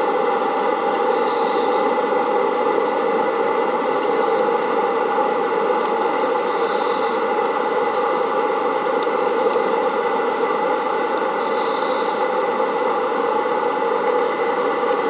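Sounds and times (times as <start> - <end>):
pumps humming underwater: 0.0 - 15.0.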